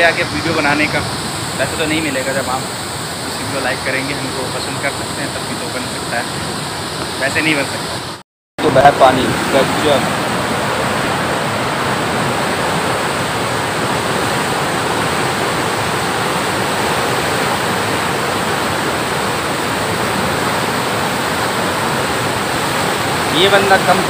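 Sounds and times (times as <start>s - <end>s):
water rushing from sluice gates: 0.0s - 24.0s.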